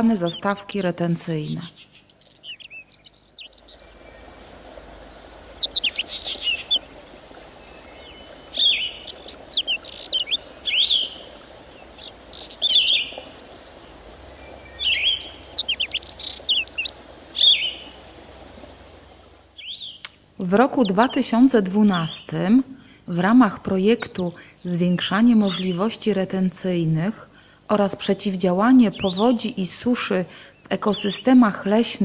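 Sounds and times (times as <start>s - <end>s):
songbird singing: 0.0s - 27.1s, 27.8s - 32.0s
steady high-pitched hiss: 0.0s - 32.0s.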